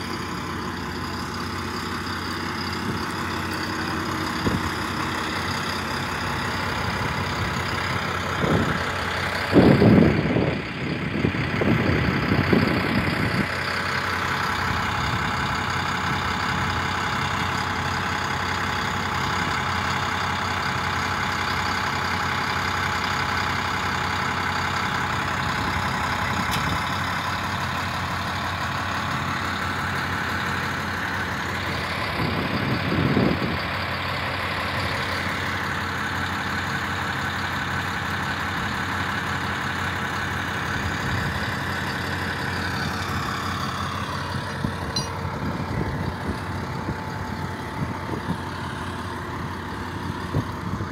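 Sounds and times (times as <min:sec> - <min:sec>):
heavy machinery engine running: 0:00.0 - 0:50.9.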